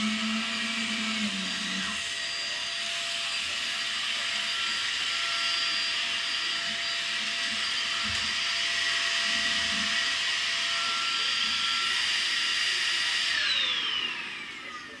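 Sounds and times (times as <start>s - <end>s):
motor winding down: 0.0s - 15.0s
vacuum cleaner whine: 0.0s - 15.0s.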